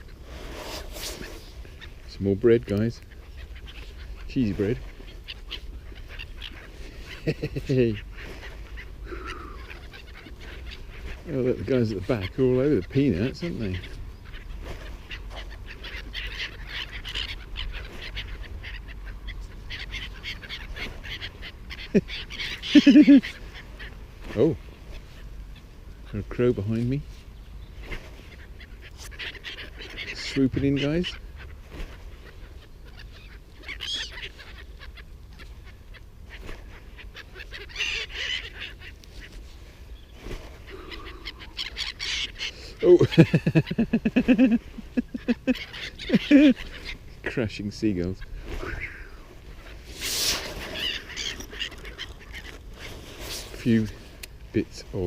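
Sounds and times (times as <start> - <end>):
seagulls calling: 0.0 - 55.0.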